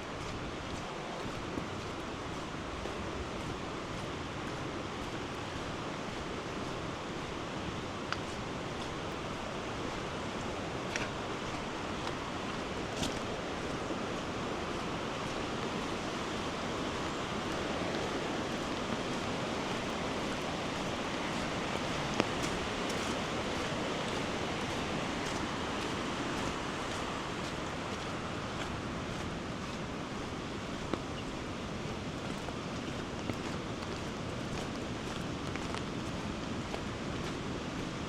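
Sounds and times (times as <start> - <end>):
water rushing: 0.0 - 38.0.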